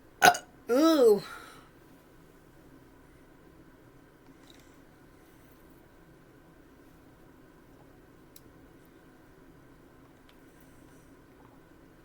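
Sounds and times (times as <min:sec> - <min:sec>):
faint hum and hiss: 0:00.0 - 0:12.0.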